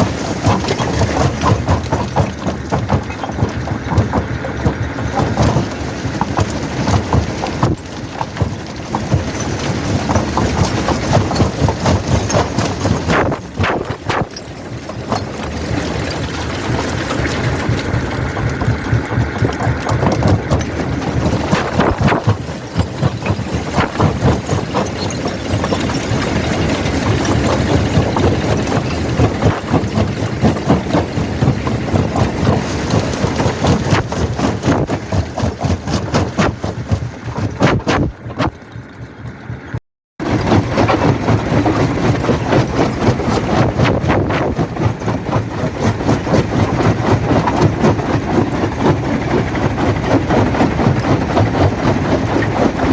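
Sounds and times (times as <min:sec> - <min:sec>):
crusher machine running: 0:00.0 - 0:52.9
rock crusher clattering: 0:00.0 - 0:52.9.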